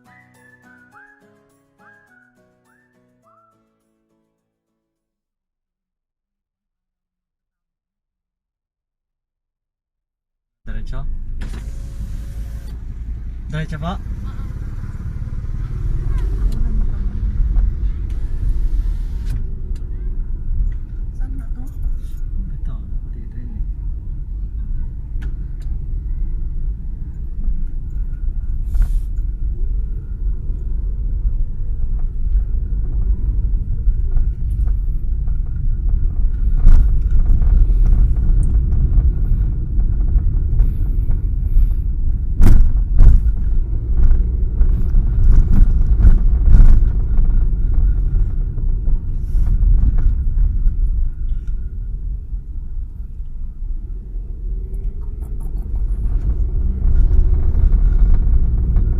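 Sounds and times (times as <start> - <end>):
car engine and road rumble: 0.0 - 1.2, 10.7 - 58.9.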